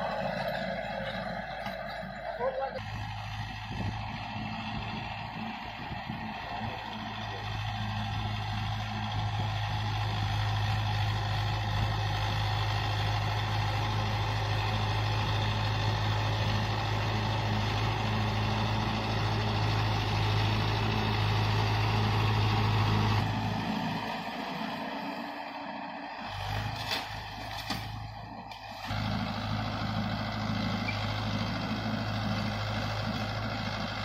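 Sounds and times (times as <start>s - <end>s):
diesel tractor engine humming: 0.0s - 34.0s.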